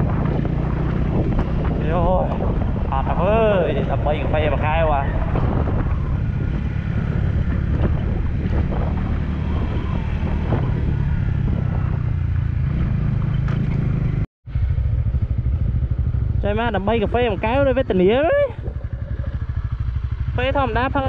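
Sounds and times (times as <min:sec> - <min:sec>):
motorcycle engine rumble: 0:00.0 - 0:21.0
wind buffeting microphone: 0:00.0 - 0:21.0.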